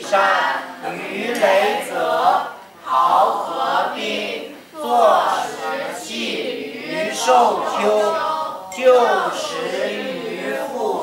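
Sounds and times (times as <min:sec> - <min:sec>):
voices chanting in unison: 0:00.0 - 0:11.0.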